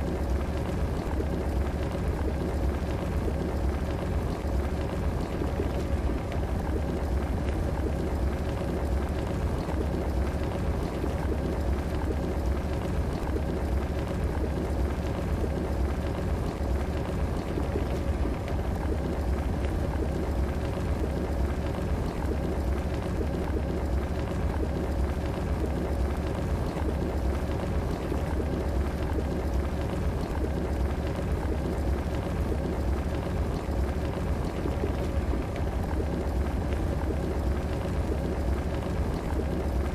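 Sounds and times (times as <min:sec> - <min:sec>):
electric kettle heating water: 0:00.0 - 0:39.9
faint steady hum: 0:00.0 - 0:39.9.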